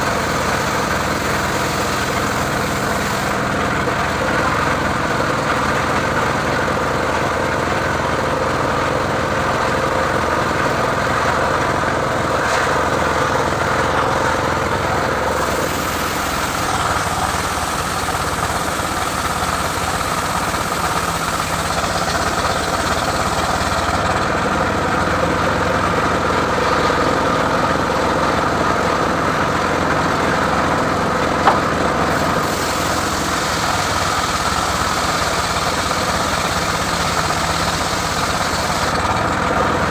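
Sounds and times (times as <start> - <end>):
saw engine running: 0.0 - 39.9.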